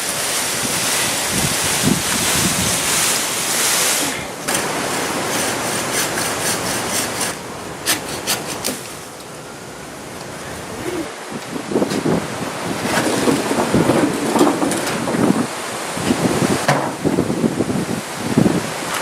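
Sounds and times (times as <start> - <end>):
gusty wind buffeting microphone: 0.0 - 8.6, 9.8 - 19.0.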